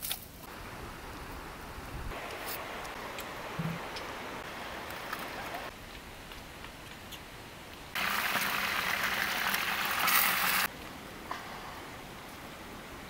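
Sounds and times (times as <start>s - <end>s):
loud steady hiss: 0.3s - 5.8s, 7.3s - 13.0s.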